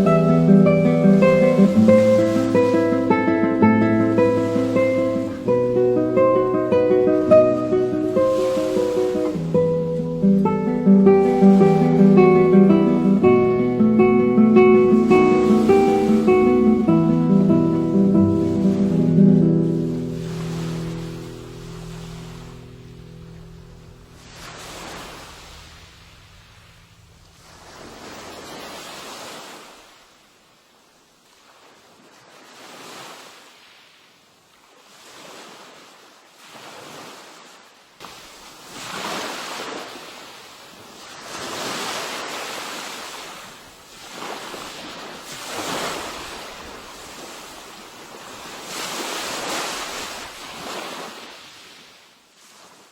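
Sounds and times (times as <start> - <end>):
sea waves washing onto shore: 0.0 - 52.9.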